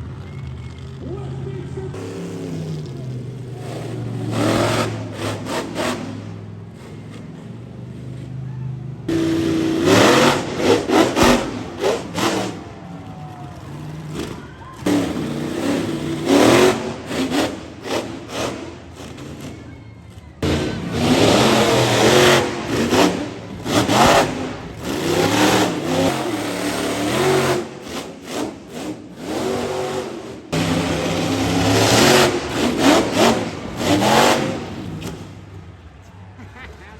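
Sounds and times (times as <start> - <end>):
monster truck engines revving: 0.0 - 36.9.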